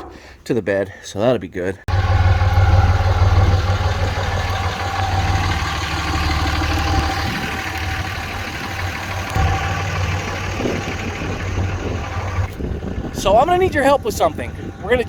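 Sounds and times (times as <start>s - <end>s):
truck engine idling: 1.9s - 15.0s.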